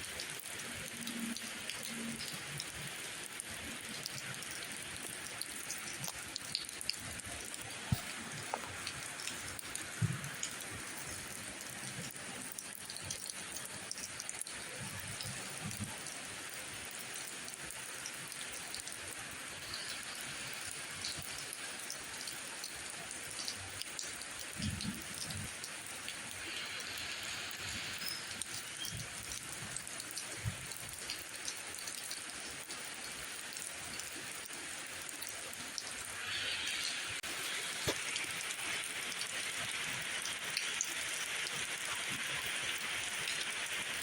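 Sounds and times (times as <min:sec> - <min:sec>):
steady rainfall: 0:00.0 - 0:44.0.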